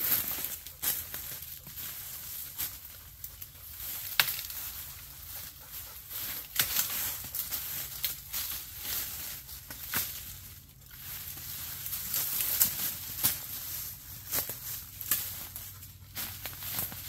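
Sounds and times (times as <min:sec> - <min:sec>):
brush rustling and crackling: 0:00.0 - 0:17.0.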